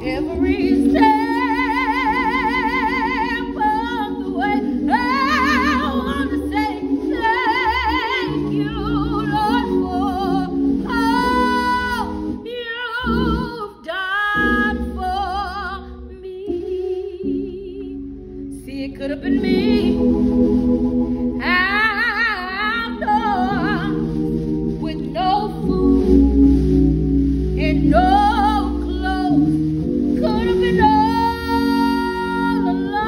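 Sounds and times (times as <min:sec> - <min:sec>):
woman singing gospel: 0:00.0 - 0:20.8, 0:21.4 - 0:26.8, 0:27.6 - 0:33.0
held accompaniment chords: 0:00.0 - 0:33.0.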